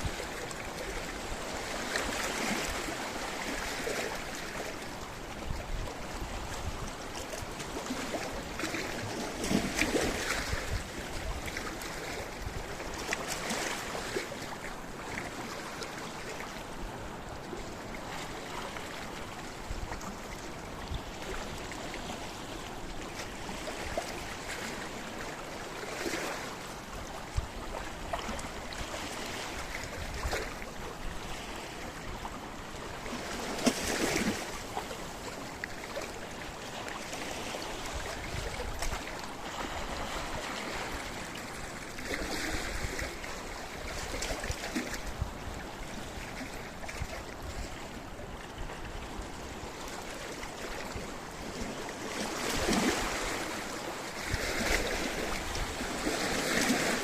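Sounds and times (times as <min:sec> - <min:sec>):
waves washing over rocks: 0:00.0 - 0:48.1, 0:49.2 - 0:57.0.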